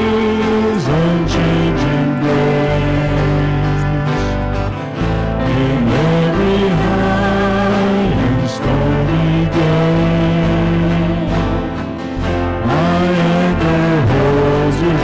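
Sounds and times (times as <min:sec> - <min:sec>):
worship band playing a hymn: 0:00.0 - 0:15.0.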